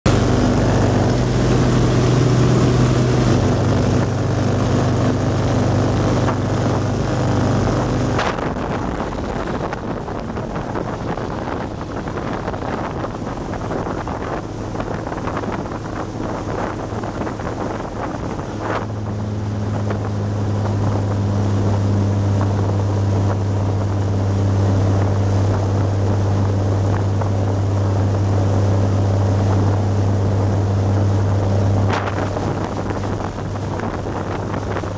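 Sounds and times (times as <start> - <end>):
boat diesel engine droning: 0.0 - 34.9
rushing water and wind: 0.1 - 34.9.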